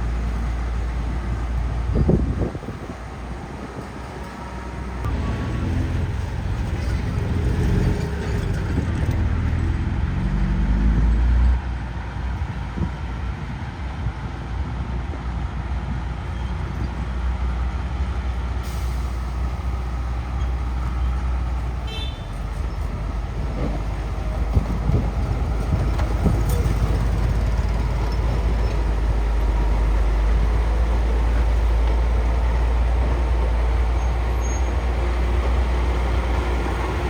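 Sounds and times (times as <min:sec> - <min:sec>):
diesel machinery engine rumble: 0:00.0 - 0:37.0.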